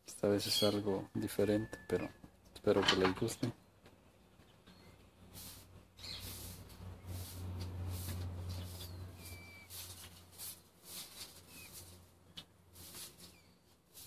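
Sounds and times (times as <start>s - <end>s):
rustling and handling noise: 2.0s - 14.0s.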